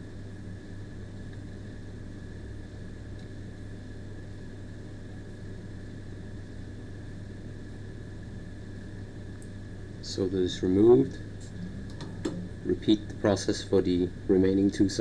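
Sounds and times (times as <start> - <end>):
faint high whine: 0.0 - 15.0
low electrical hum with hiss: 0.0 - 15.0.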